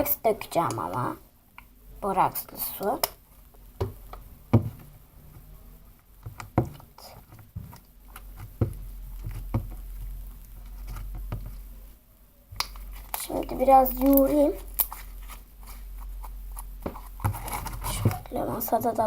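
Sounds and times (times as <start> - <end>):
slime squishing by hand: 0.0 - 19.0.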